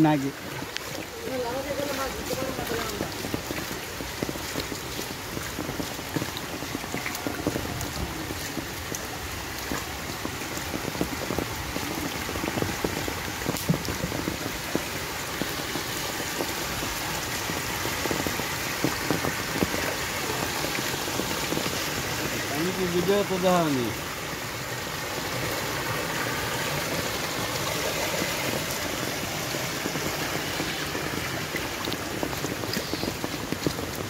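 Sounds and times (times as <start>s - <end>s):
floodwater running: 0.0s - 34.0s
heavy rain falling: 0.0s - 34.0s.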